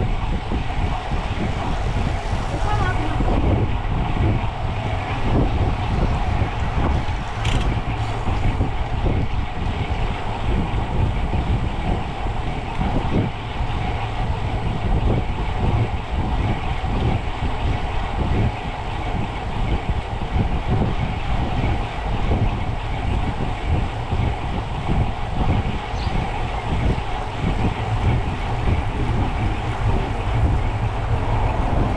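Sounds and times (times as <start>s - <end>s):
bicycle tyres rolling on road: 0.0s - 31.9s
wind buffeting microphone: 0.0s - 31.9s.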